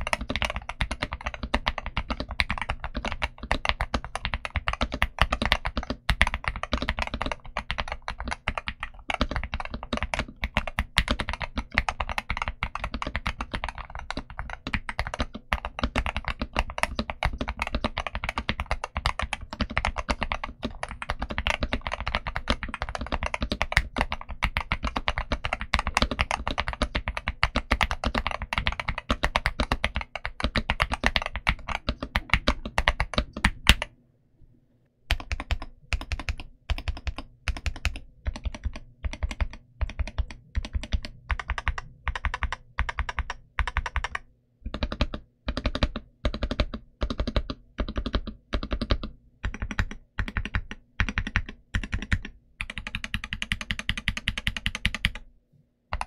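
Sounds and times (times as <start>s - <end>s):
mechanical keyboard typing: 0.0s - 33.9s, 35.1s - 55.3s.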